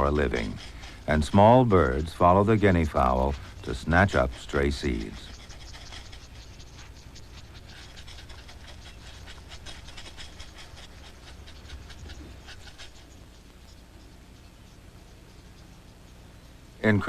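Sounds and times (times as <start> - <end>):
bird scratching dry ground: 0.0 - 16.5.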